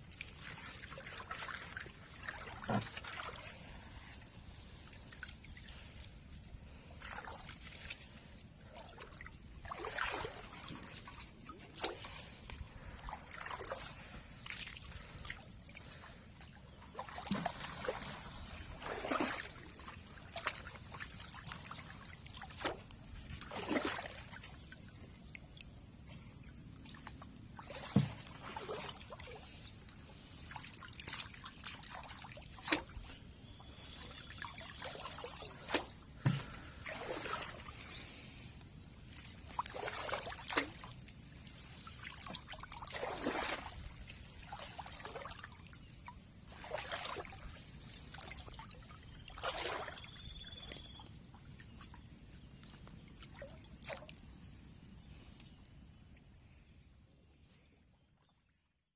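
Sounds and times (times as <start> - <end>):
shallow water splashing: 0.0 - 54.2.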